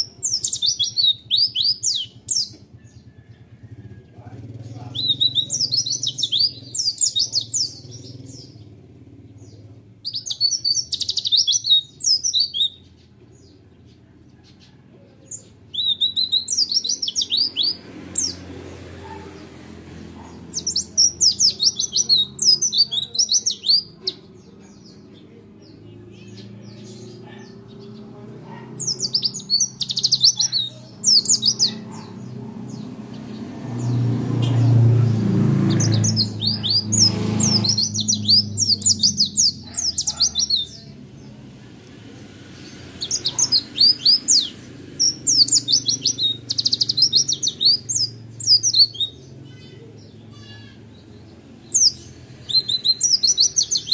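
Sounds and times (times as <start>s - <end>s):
bird twittering song: 0.0s - 41.4s, 42.6s - 53.9s.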